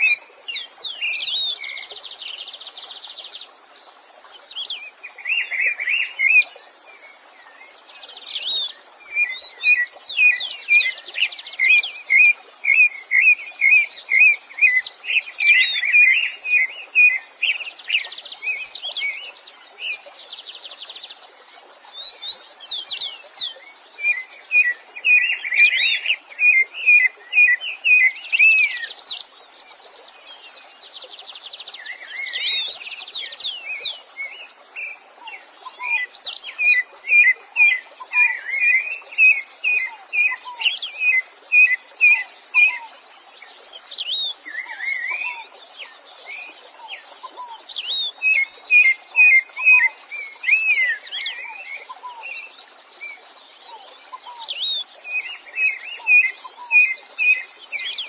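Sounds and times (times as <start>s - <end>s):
songbirds singing: 0.0s - 58.0s
stream water rushing: 0.0s - 58.0s.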